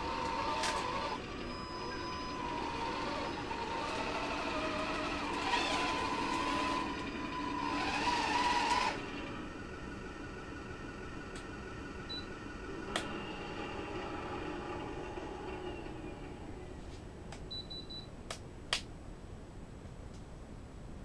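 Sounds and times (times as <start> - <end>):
model tank motors whining: 0.0 - 17.0.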